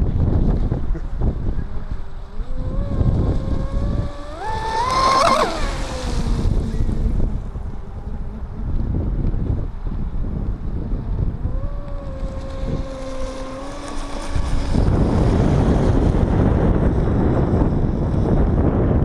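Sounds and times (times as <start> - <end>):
wind buffeting microphone: 0.0 - 19.0
electric boat motor whine: 1.2 - 18.9.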